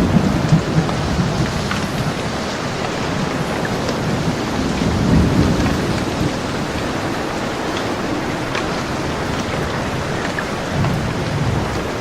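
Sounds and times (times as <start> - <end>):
heavy rain: 0.0 - 12.0
low thunder rumble: 0.0 - 12.0
raindrops ticking close by: 0.0 - 12.0.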